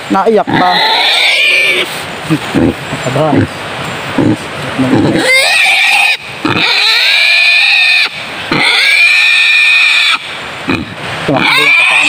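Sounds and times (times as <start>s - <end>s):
wild boar squealing: 0.4s - 12.0s.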